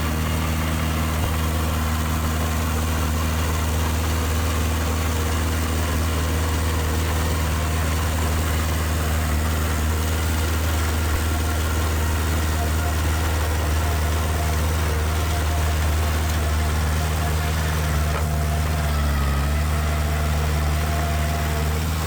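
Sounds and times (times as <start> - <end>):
heavy diesel engine idling: 0.0 - 22.0.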